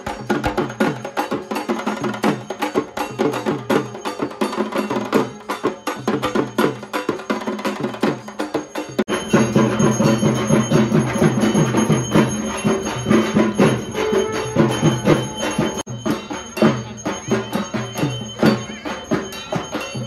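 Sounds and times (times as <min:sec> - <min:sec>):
drums beaten in fast rhythm: 0:00.0 - 0:20.0.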